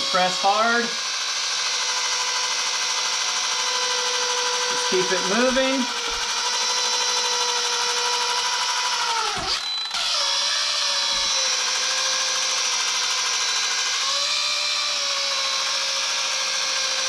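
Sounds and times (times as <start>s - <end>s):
polisher motor whine: 0.0s - 17.0s.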